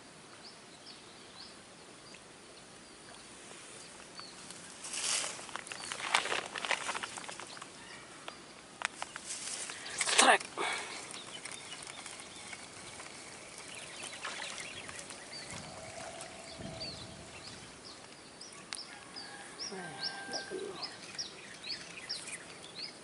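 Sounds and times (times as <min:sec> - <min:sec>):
small bird chirping: 0:02.9 - 0:23.0.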